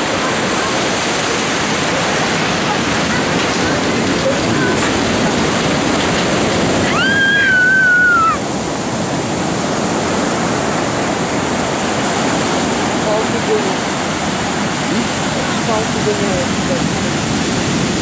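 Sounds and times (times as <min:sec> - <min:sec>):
waves breaking: 0:00.0 - 0:18.0.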